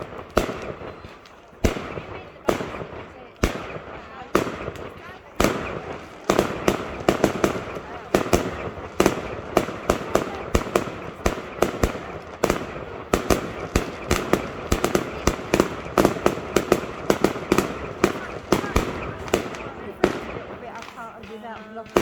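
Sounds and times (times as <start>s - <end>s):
fireworks bangs echoing: 0.0s - 22.0s.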